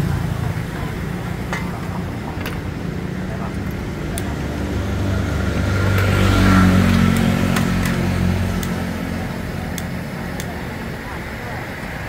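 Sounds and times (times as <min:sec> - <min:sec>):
vehicle engine passing: 0:00.0 - 0:10.4.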